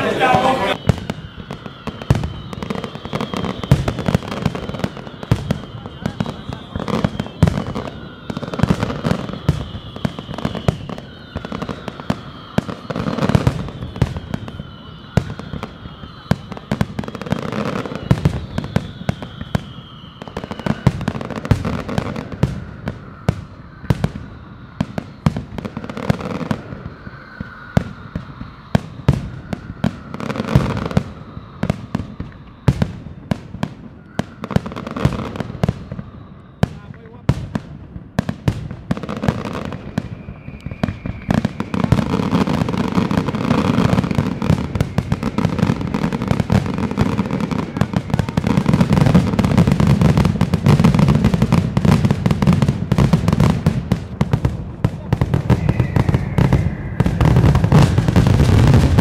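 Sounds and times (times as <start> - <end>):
falling firework whistles: 0.0 - 59.0
fireworks bangs and crackling: 0.0 - 59.0
deep firework booms: 0.8 - 59.0.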